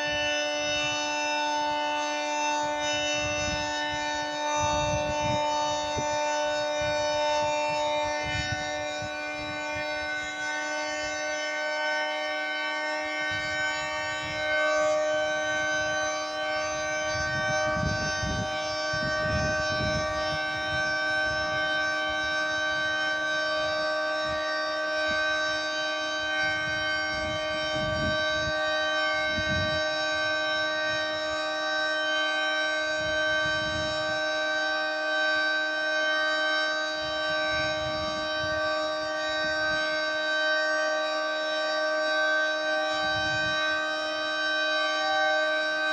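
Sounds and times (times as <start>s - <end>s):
three-tone warning siren: 0.0s - 45.9s.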